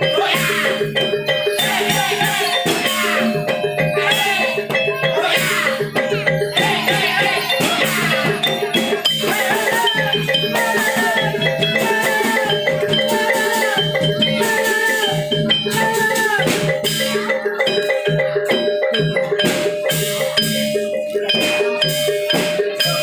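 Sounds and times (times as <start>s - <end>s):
gamelan metallophones and drums: 0.0s - 23.0s.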